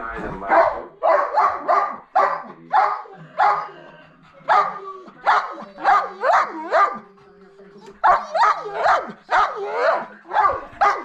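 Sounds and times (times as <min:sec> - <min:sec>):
sled dogs barking and yipping: 0:00.5 - 0:03.8, 0:04.5 - 0:07.0, 0:08.0 - 0:11.0.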